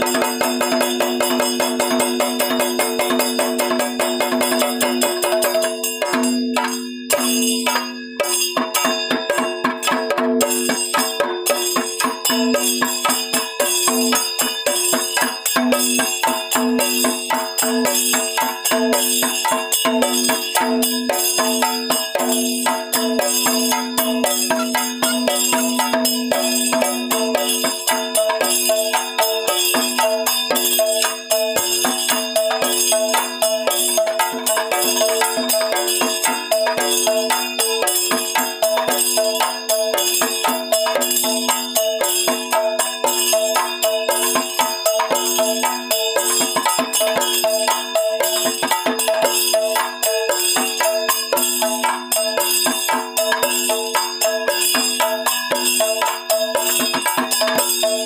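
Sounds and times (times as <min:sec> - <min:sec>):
fast percussion strikes: 0:00.0 - 0:58.0
ringing metallic tones: 0:00.0 - 0:58.0.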